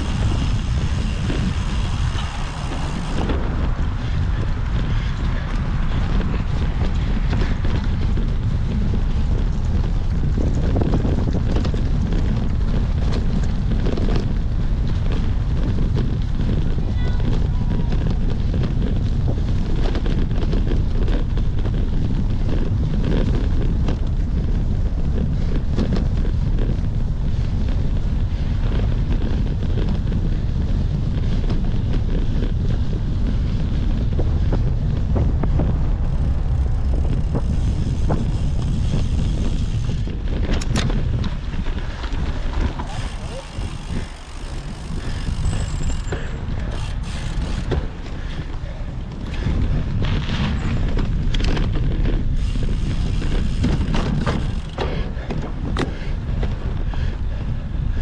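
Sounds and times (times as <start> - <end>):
bike clicks and rattles: 0.0 - 58.0
wind buffeting microphone: 0.0 - 58.0.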